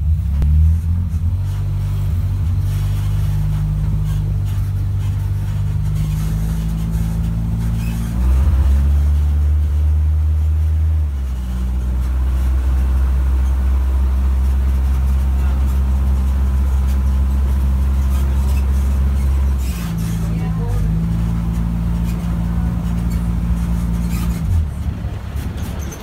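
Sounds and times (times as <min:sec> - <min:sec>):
tram engine droning: 0:00.0 - 0:26.0.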